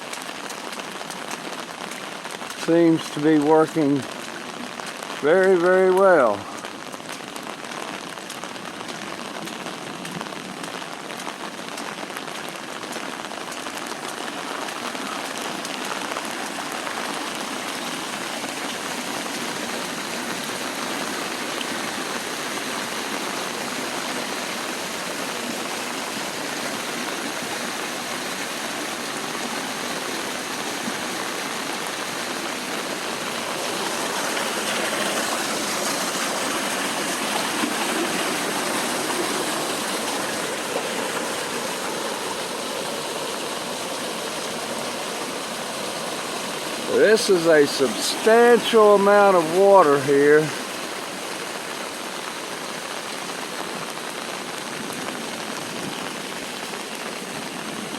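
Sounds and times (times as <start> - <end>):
falling rain: 0.0 - 57.9
storm runoff rushing through drain: 0.0 - 57.9.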